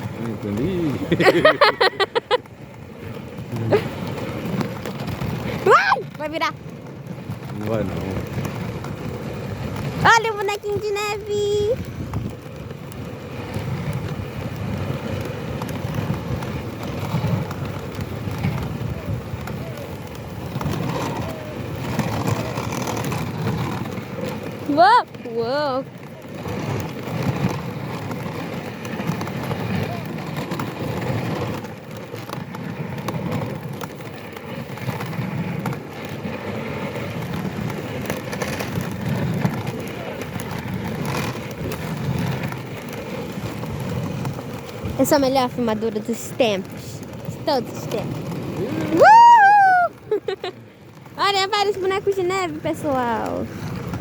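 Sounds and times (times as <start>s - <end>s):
wind on microphone: 0.0s - 31.6s, 34.5s - 54.0s
sled runners scraping on snow: 0.0s - 54.0s.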